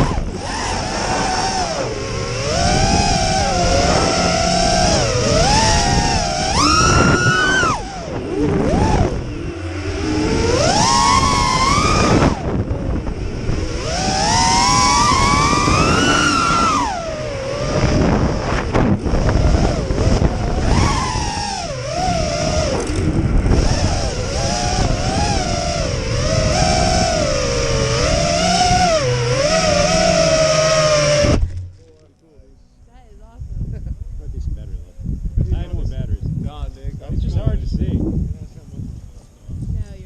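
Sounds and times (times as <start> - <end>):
drone motors whining: 0.0 - 40.0.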